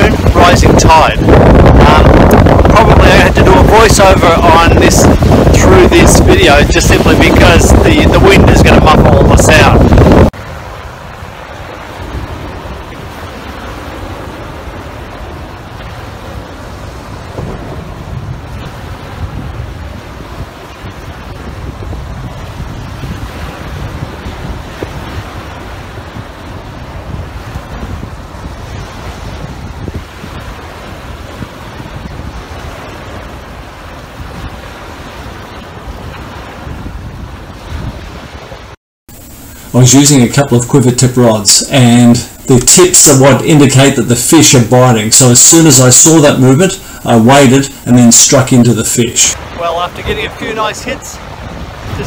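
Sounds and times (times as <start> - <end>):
heavy wind buffeting microphone: 0.0 - 52.0
small waves breaking on beach: 0.0 - 52.0.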